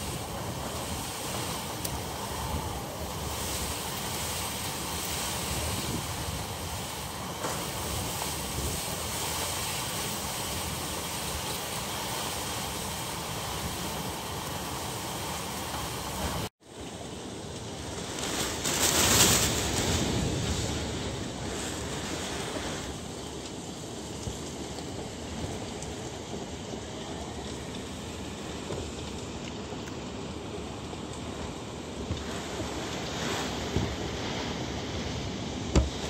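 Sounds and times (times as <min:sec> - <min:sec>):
wind and rain rushing: 0:00.0 - 0:36.0.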